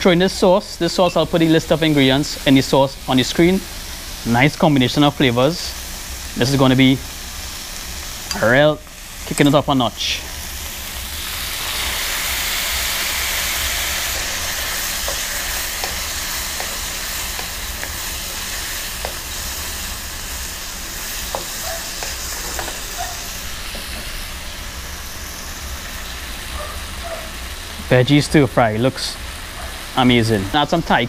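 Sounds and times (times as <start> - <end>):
sauce sizzling in a hot wok: 0.1 - 30.8.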